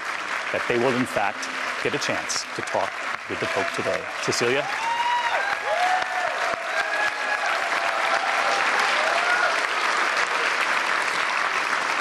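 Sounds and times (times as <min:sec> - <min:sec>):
audience applauding: 0:00.0 - 0:12.0
people whooping: 0:00.6 - 0:10.7.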